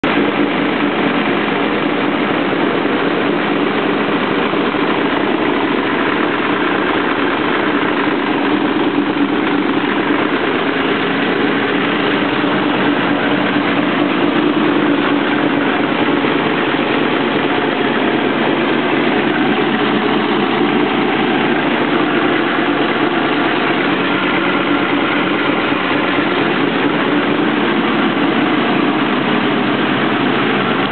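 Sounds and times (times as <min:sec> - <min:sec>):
car engine idling: 0:00.0 - 0:30.9
exhaust leak: 0:00.0 - 0:30.9.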